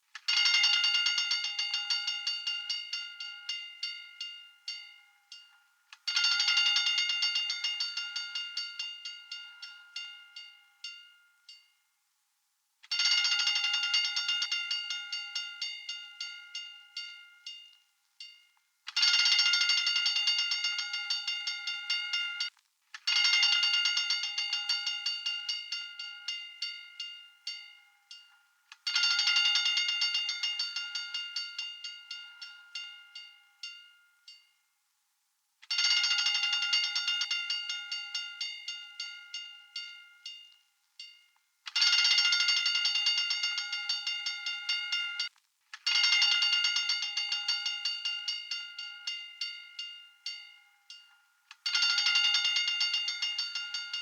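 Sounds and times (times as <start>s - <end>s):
hand-cranked fire alarm bell: 0.2s - 11.7s, 12.9s - 34.6s, 35.7s - 45.3s, 45.9s - 54.0s.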